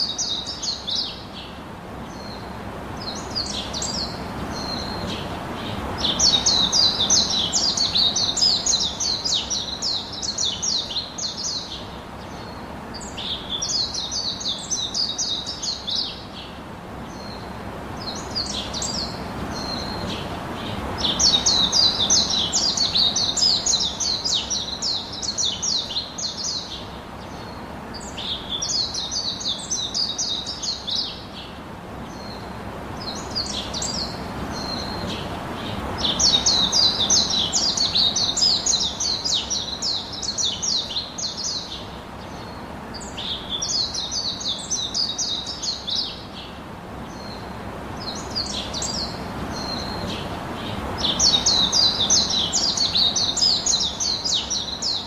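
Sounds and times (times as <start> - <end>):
birds chirping: 0.0 - 55.0
steady background hiss: 0.0 - 55.0.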